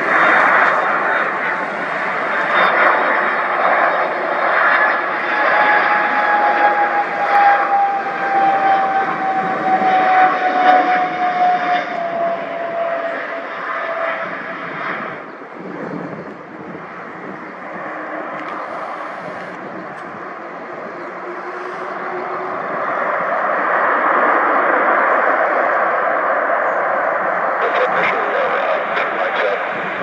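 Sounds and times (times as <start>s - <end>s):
aircraft engines passing: 0.0s - 30.0s.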